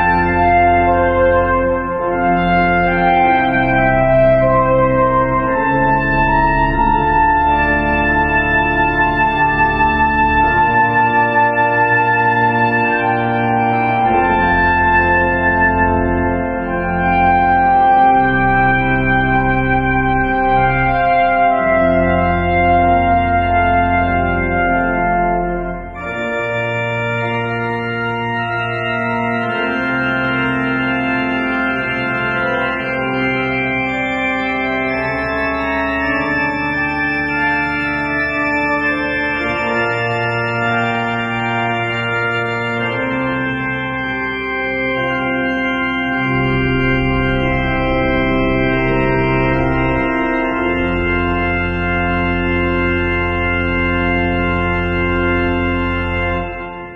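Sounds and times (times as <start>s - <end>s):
deep bass line: 0.0s - 56.9s
organ playing held chords: 0.0s - 56.9s.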